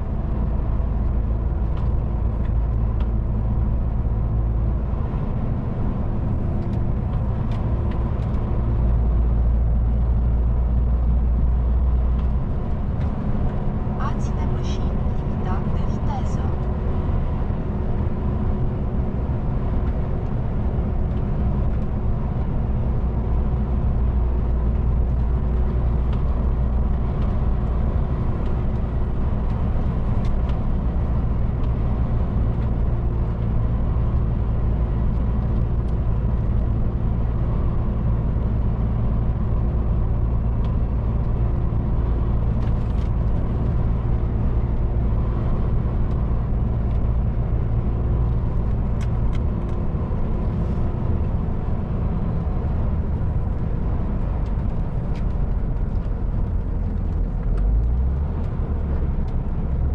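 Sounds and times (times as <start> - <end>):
truck diesel engine rumbling: 0.0 - 59.9.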